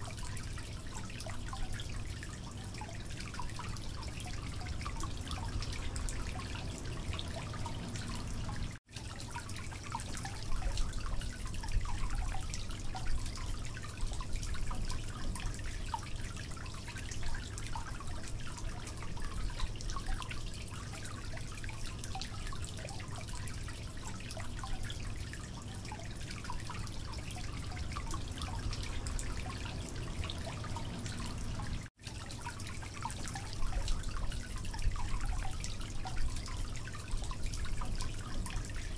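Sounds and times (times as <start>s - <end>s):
dripping crackling water-like noise: 0.0s - 38.9s.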